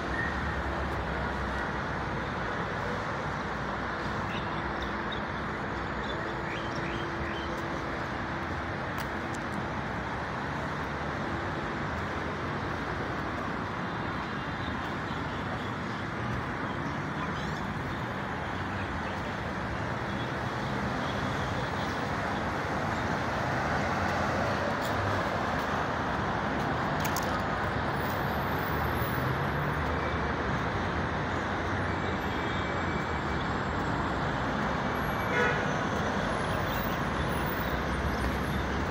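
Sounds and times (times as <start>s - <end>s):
city street traffic hum: 0.0s - 38.9s.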